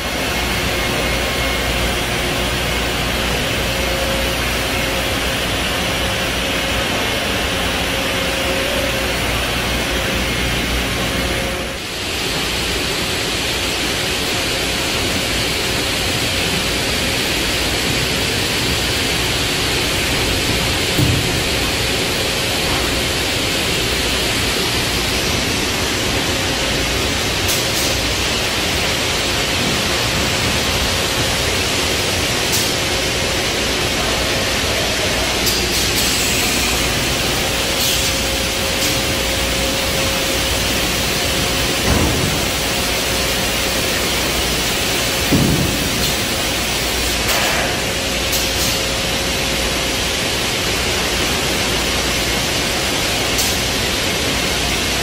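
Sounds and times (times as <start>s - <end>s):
loud machinery hiss: 0.0s - 55.0s.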